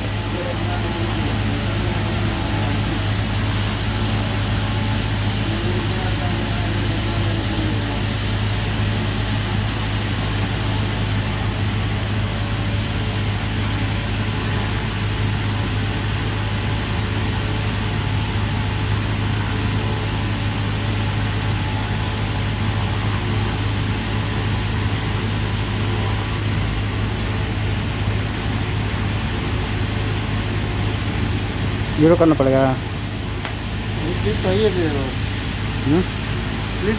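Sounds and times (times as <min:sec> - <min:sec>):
welding hum and hiss: 0:00.0 - 0:36.9.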